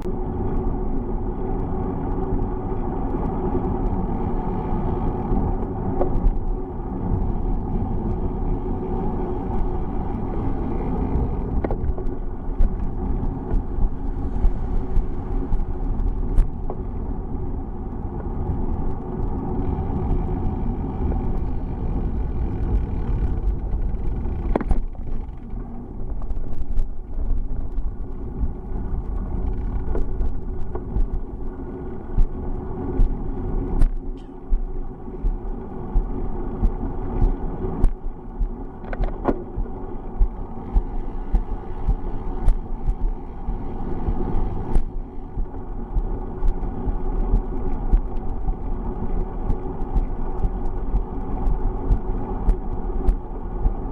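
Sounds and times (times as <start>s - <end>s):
bicycle rumbling along road: 0.0s - 53.9s
wind noise: 0.0s - 53.9s
sharp clicks and rattles: 5.0s - 17.1s, 17.9s - 53.9s.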